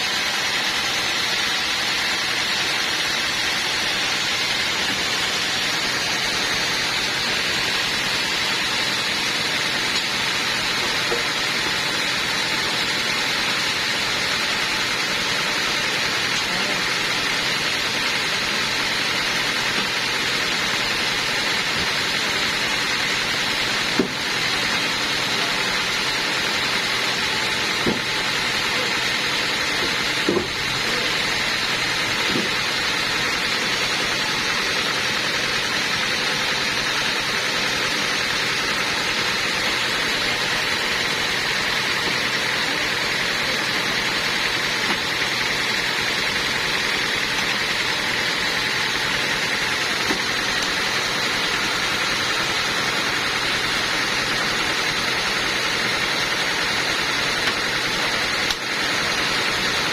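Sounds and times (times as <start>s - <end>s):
sawmill machinery hissing: 0.0s - 59.9s.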